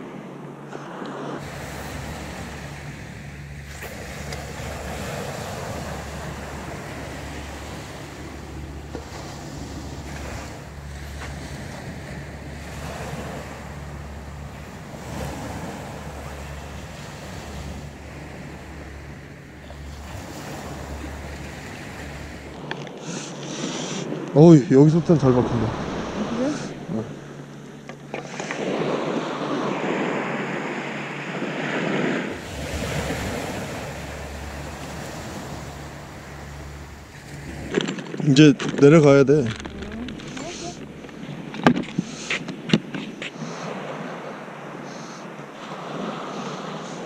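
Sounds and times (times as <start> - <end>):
surf breaking on beach: 0.0 - 47.0
wind on microphone: 0.7 - 44.8.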